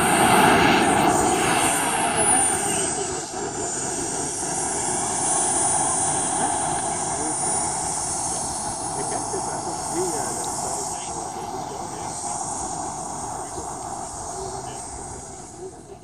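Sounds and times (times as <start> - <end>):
model jet turbine whine: 0.0 - 16.0.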